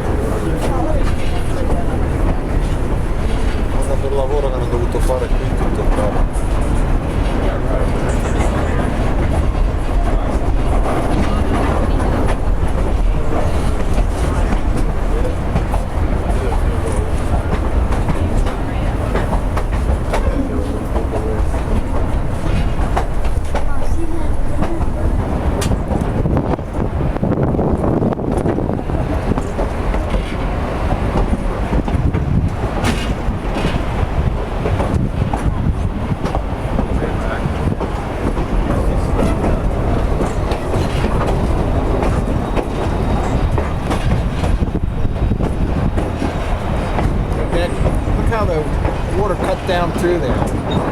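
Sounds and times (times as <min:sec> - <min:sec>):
railroad car rumbling: 0:00.0 - 0:50.9
wheels clacking over rail joints: 0:00.0 - 0:50.9.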